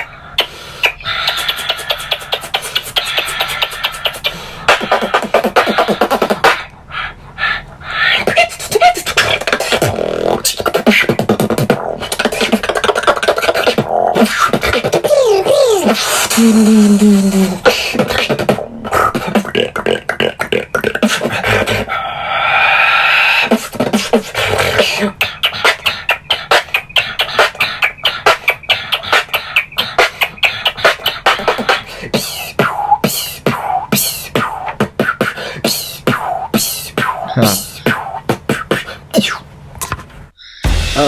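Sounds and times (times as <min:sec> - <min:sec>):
person beatboxing: 0:00.0 - 0:07.1, 0:07.9 - 0:39.5, 0:40.4 - 0:41.0
held pitched vocal tone: 0:00.0 - 0:39.4, 0:40.4 - 0:41.0.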